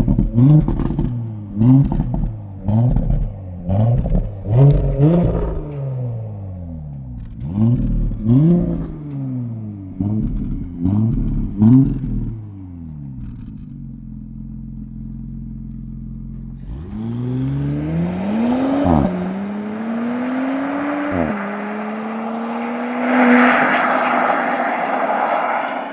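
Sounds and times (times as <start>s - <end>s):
rushing road noise: 0.0s - 13.9s, 16.5s - 25.9s
car engine accelerating: 0.0s - 25.9s.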